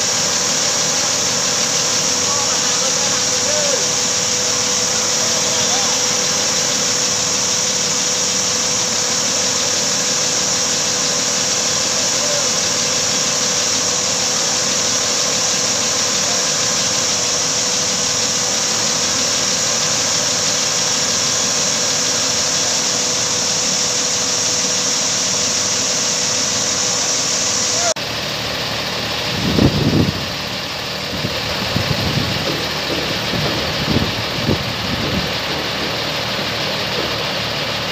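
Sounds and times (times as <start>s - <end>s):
constant whine: 0.0s - 37.9s
crane engine running: 0.0s - 37.9s.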